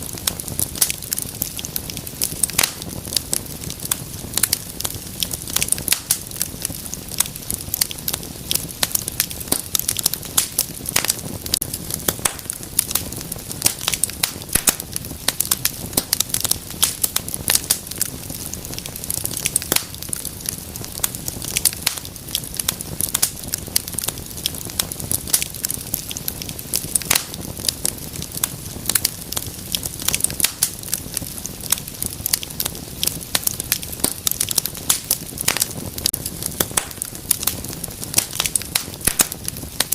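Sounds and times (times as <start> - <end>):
low rush of flames: 0.0 - 39.9
wood fire crackling: 0.0 - 39.9.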